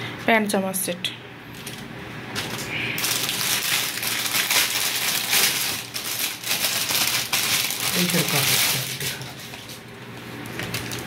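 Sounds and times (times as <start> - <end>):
plastic bags crinkling: 1.6 - 11.0.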